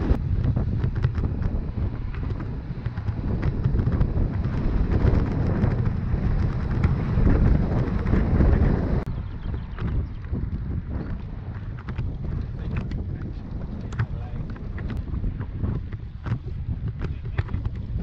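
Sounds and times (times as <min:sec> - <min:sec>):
road and tyre noise: 0:00.0 - 0:18.0
wind buffeting microphone: 0:00.0 - 0:18.0.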